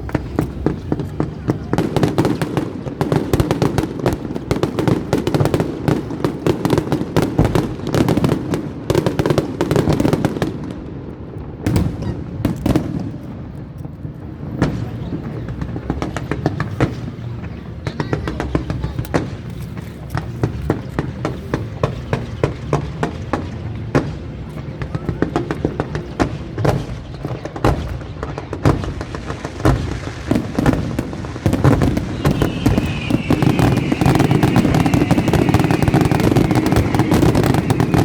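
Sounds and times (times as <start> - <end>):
fireworks bursting and crackling: 0.0 - 38.0.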